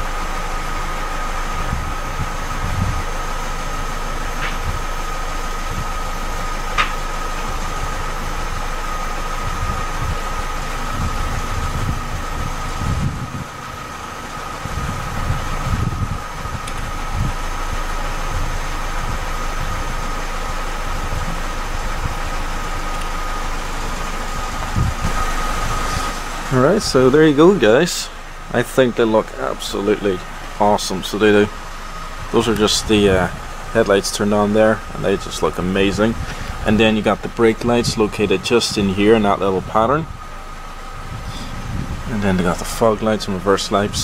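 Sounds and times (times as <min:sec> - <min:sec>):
car engine idling: 0:00.0 - 0:44.0
high whine: 0:00.0 - 0:44.0.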